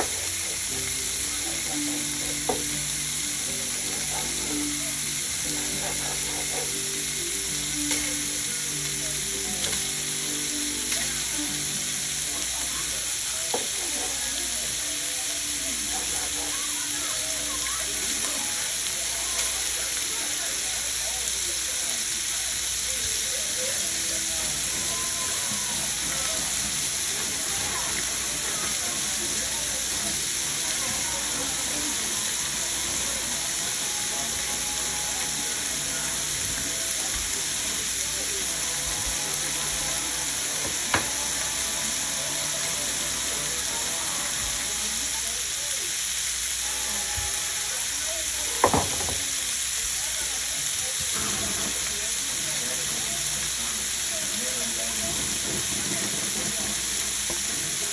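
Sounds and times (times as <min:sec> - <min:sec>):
food sizzling in a hot pan: 0:00.0 - 0:57.9.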